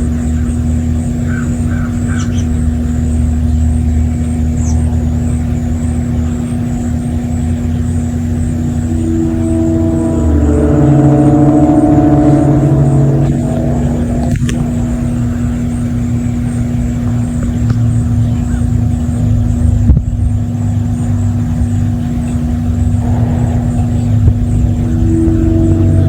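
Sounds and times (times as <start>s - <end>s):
low drone: 2.6s - 26.0s
deep rumble: 3.3s - 26.0s.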